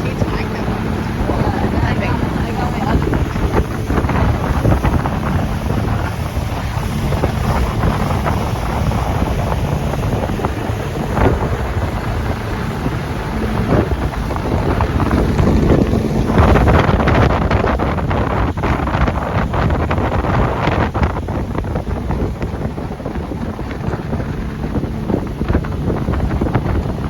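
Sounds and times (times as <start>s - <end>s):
boat motor running: 0.0s - 27.0s
wind buffeting microphone: 0.0s - 27.0s.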